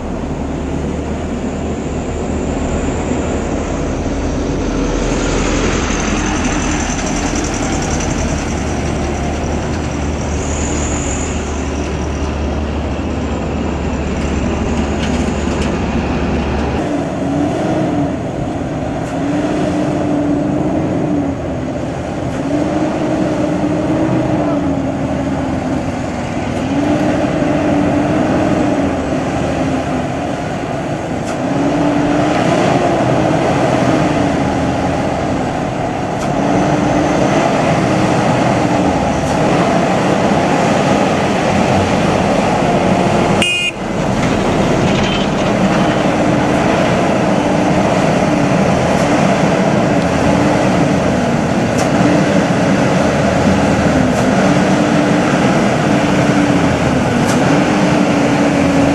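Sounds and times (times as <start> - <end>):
heavy truck engine revving: 0.0 - 58.9
traffic noise: 0.0 - 58.9.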